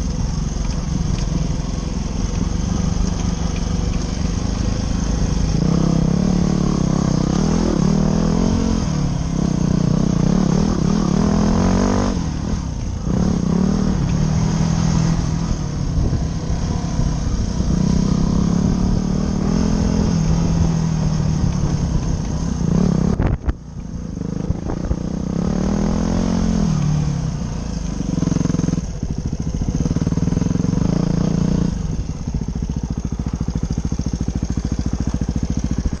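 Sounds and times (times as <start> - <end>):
dirt bike engine revving: 1.1 - 23.4, 24.1 - 36.0.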